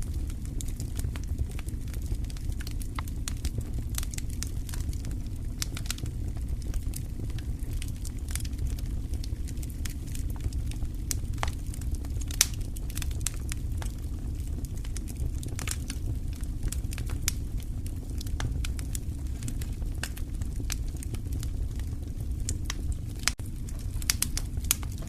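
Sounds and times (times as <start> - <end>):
steady low rumble: 0.0 - 25.0
wood fire crackling: 0.0 - 25.0.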